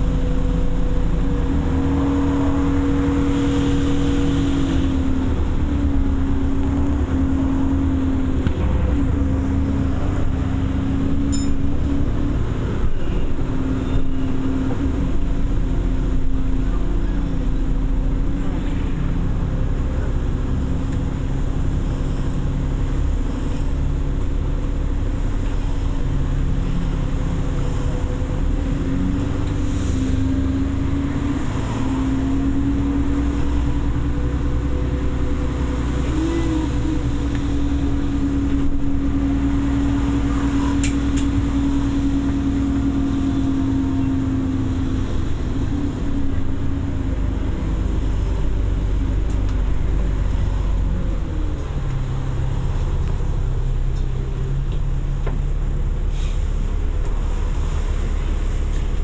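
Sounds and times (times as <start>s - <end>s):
bus engine rumble and whine: 0.0s - 59.0s.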